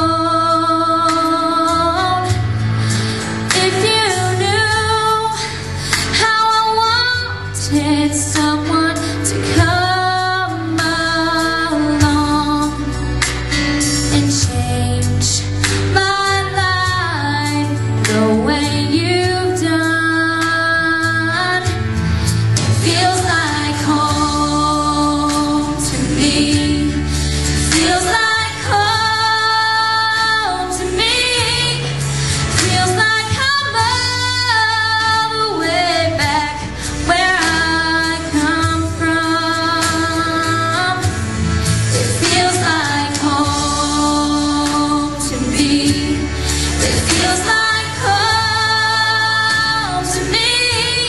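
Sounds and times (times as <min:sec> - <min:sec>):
young woman singing: 0:00.0 - 0:02.5, 0:03.5 - 0:13.0, 0:14.0 - 0:21.9, 0:22.7 - 0:41.2, 0:41.9 - 0:51.0
low instrumental accompaniment: 0:00.0 - 0:51.0.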